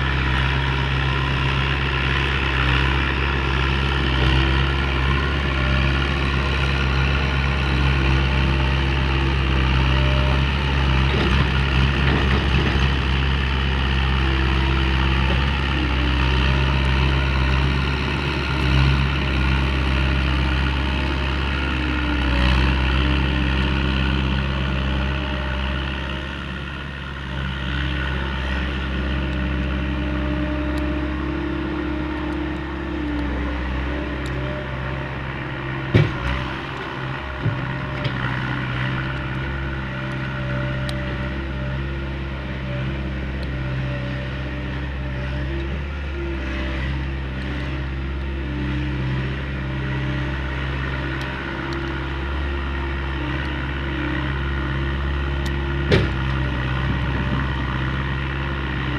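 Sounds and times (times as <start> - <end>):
motor drone with deep hum: 0.0 - 58.9.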